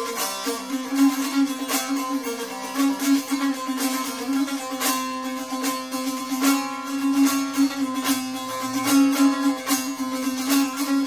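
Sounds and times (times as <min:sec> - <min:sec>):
lute strummed with drone: 0:00.0 - 0:11.0.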